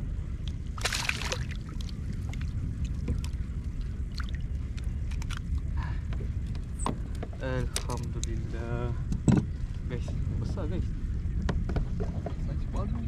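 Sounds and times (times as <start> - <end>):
water rumbling against hull: 0.0 - 13.0.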